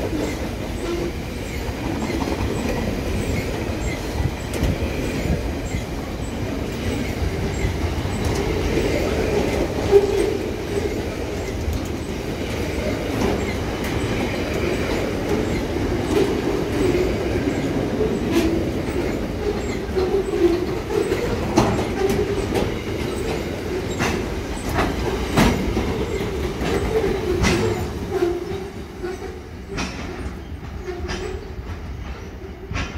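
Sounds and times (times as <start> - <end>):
train rail rumble: 0.0 - 32.9
wheels clacking over rail joints: 0.0 - 32.9.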